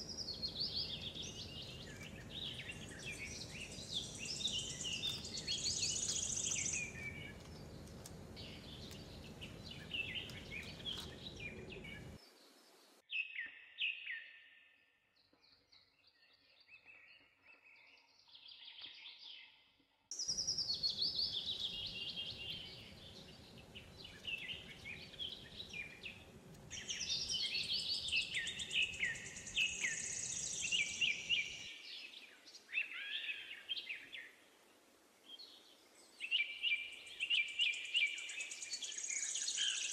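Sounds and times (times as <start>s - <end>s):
low background noise: 0.0s - 13.0s, 20.1s - 39.9s
small birds chirping: 0.0s - 14.4s, 15.2s - 39.9s.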